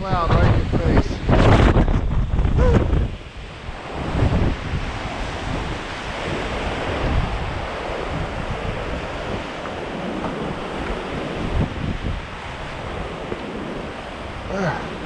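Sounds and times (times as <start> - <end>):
strong wind blowing: 0.0 - 15.0
wind buffeting microphone: 0.0 - 15.0.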